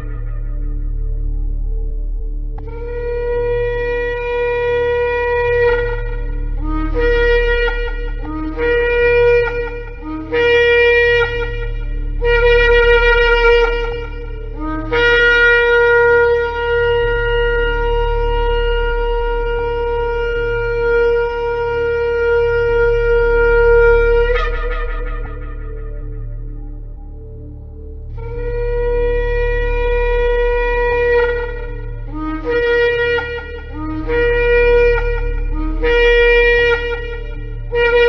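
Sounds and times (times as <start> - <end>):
shofar blasts: 2.6 - 38.0.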